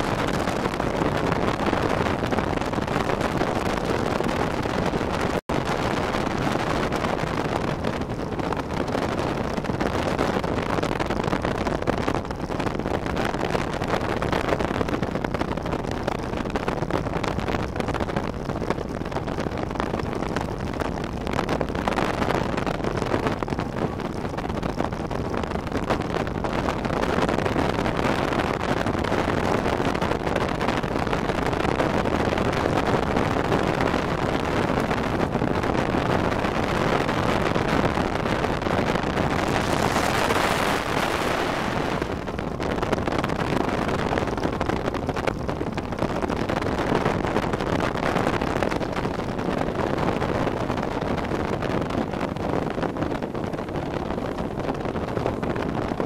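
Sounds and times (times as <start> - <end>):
boat on water: 0.0 - 56.0
wind buffeting microphone: 0.0 - 56.0.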